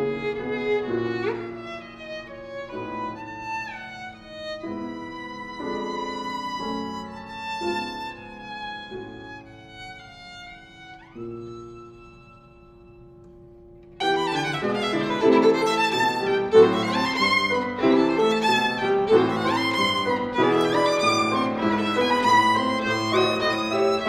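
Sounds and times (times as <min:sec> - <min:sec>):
piano accompaniment: 0:00.0 - 0:24.0
solo violin: 0:00.0 - 0:24.0.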